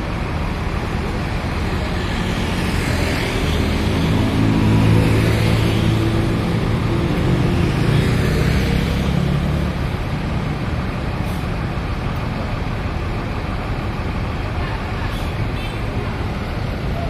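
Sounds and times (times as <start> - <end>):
bus engine humming: 0.0 - 17.0
traffic rumble: 0.0 - 17.0.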